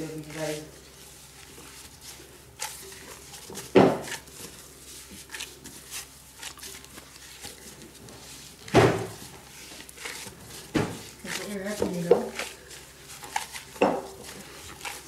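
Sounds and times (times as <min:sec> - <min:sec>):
dough squishing and rustling: 0:00.0 - 0:15.0.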